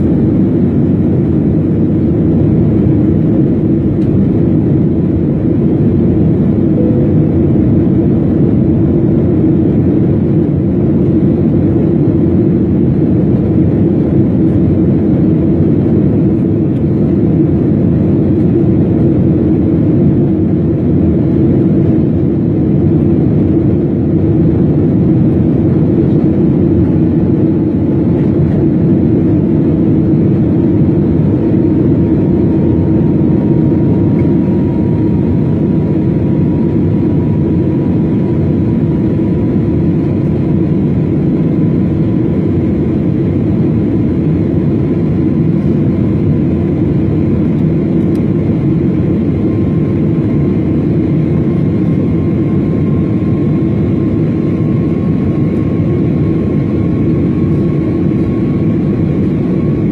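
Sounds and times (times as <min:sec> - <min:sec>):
faint high whine: 0:00.0 - 0:59.9
jet cabin engine noise: 0:00.0 - 0:59.9.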